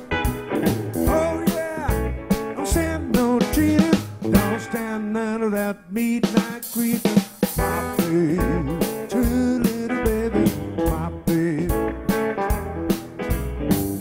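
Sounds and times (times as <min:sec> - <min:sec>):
electric keyboard: 0:00.0 - 0:05.2, 0:07.5 - 0:14.0
drum kit: 0:00.0 - 0:14.0
electric guitar: 0:00.0 - 0:14.0.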